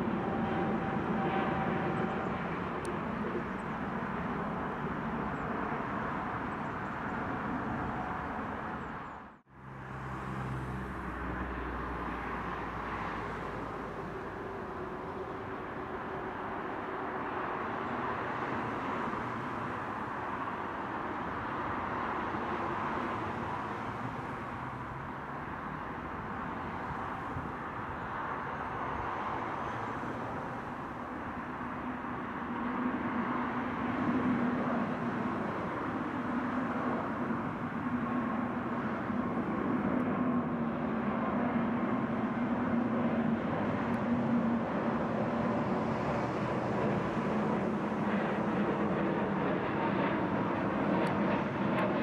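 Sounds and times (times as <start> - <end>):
jet engine roar: 0.0 - 52.0.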